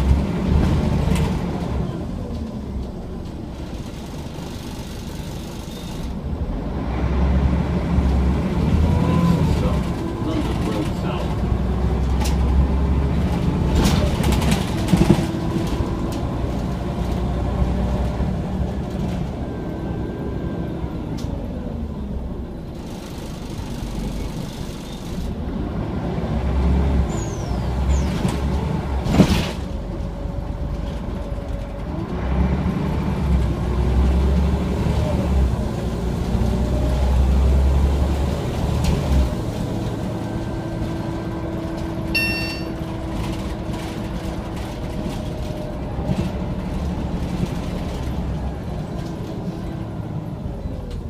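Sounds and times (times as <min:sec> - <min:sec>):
bus engine accelerating: 0:00.0 - 0:51.0.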